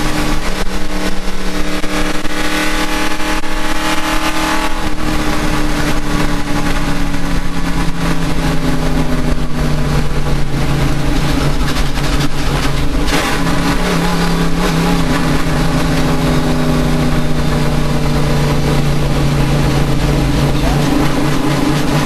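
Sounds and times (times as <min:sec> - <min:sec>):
racing engine misfiring: 0:00.0 - 0:22.0.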